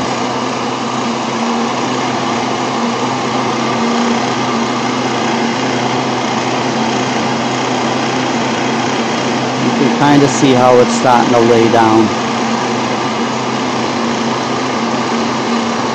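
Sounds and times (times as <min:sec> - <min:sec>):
heat gun blowing air: 0:00.0 - 0:15.9.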